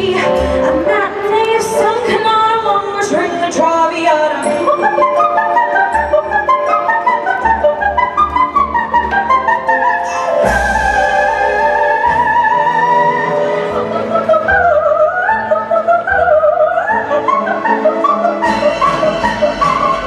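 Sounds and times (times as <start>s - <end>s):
woman singing soprano: 0.0s - 19.9s
instrumental accompaniment: 0.0s - 20.0s.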